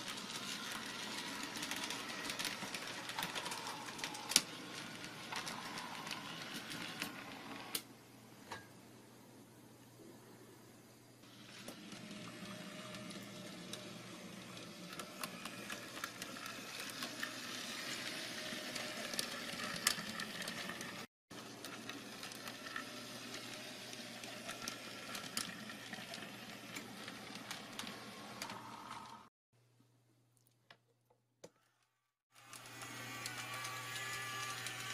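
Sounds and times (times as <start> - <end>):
model tram motor whirring: 0.0 - 7.8, 11.2 - 29.3, 32.4 - 34.9.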